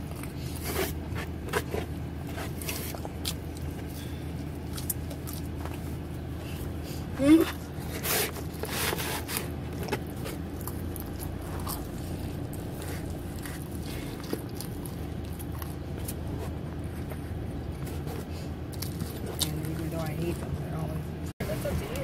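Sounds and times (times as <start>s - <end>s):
pizza biting and chewing: 0.0s - 19.9s
steady low hum: 0.0s - 22.0s.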